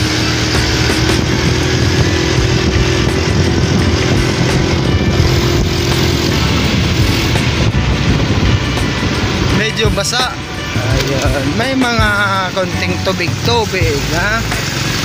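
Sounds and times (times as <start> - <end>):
motorcycle engine running: 0.0 - 15.0
rushing noise: 0.0 - 15.0.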